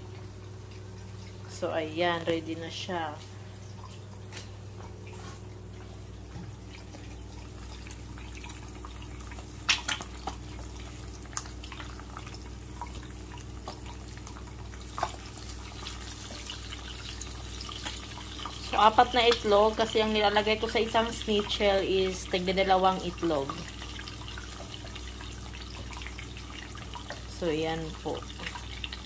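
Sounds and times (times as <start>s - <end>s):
eggs frying and crackling: 0.0s - 29.0s
steady low hum: 0.0s - 29.0s.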